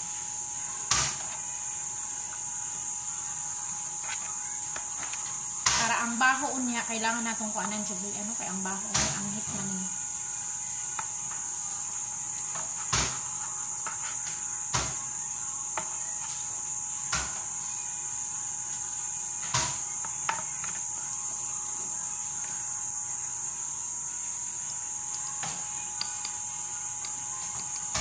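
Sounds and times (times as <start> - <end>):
faint hum: 0.0 - 28.0.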